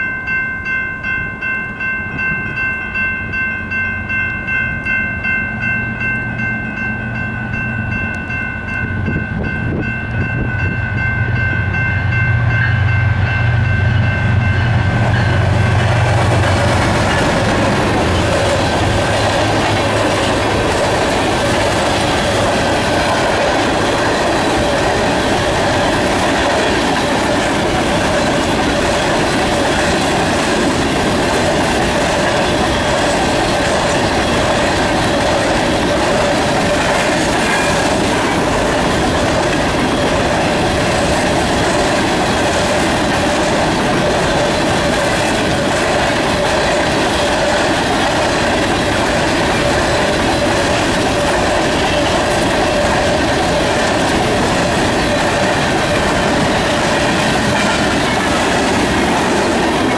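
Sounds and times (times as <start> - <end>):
train wheels rumbling on rail: 2.0 - 59.9.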